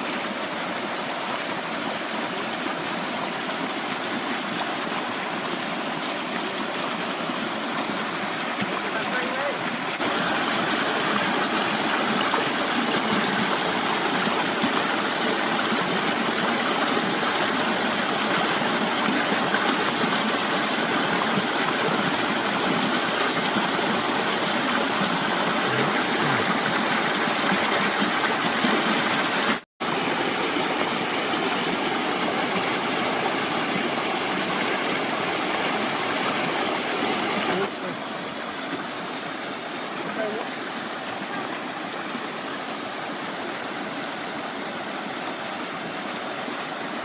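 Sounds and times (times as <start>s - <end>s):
stream water rushing: 0.0s - 47.0s.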